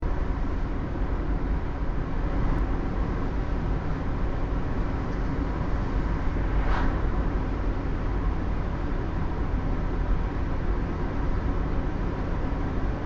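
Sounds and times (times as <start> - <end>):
road and wind noise: 0.0 - 13.0
vehicle rumble: 0.0 - 13.0.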